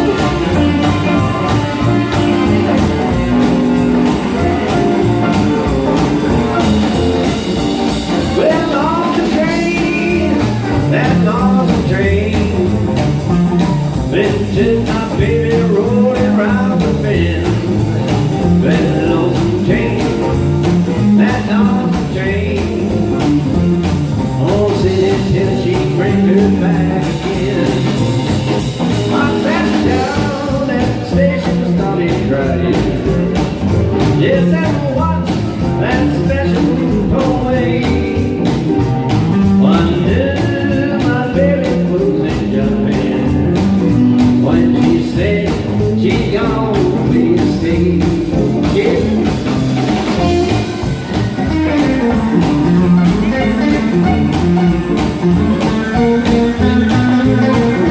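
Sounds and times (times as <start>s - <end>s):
electric guitars: 0.0s - 57.9s
live blues band playing: 0.0s - 57.9s.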